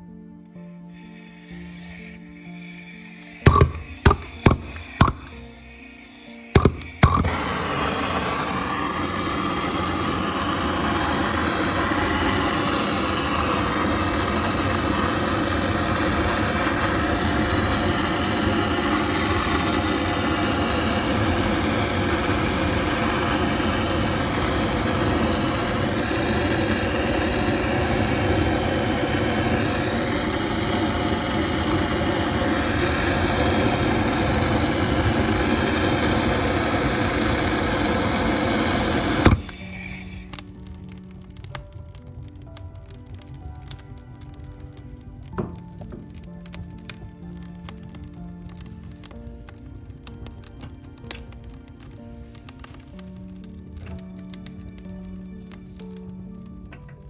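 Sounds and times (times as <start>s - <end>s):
faint fire crackles: 0.4s - 57.0s
wood fire draught roar: 3.0s - 56.8s.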